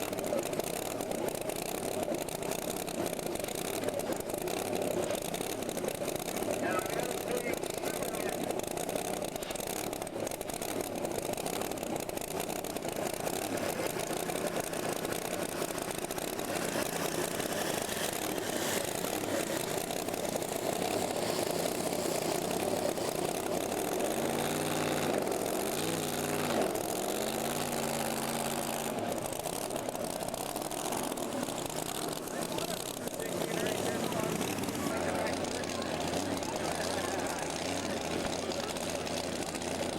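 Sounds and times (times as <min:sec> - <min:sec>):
engine revving: 0:00.0 - 0:39.9.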